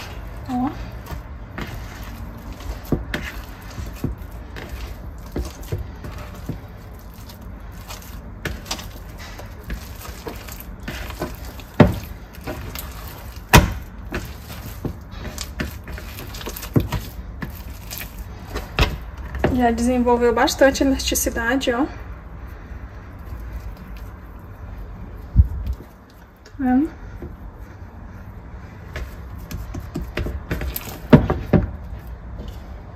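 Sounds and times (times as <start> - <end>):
hands handling wet dough: 0.0 - 19.8, 22.1 - 32.9.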